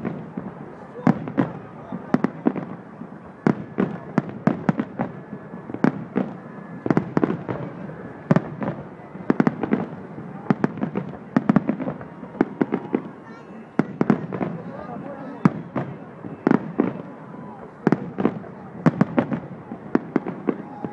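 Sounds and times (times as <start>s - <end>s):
fireworks bursting: 0.0s - 20.9s.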